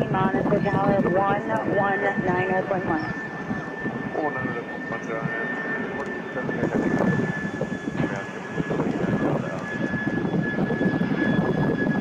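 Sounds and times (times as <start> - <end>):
jet airliner flying overhead: 0.0 - 12.0.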